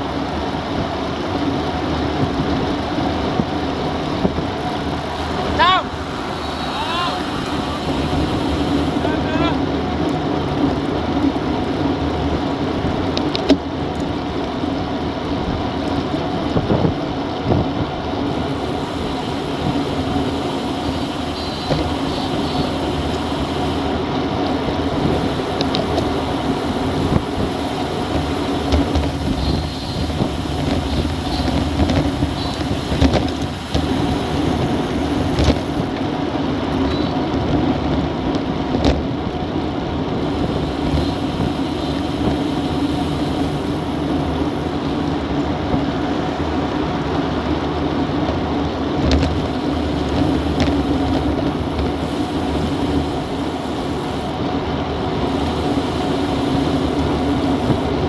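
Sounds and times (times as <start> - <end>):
wind buffeting microphone: 0.0 - 13.3, 15.0 - 58.0
bike tyres humming on asphalt: 0.0 - 58.0.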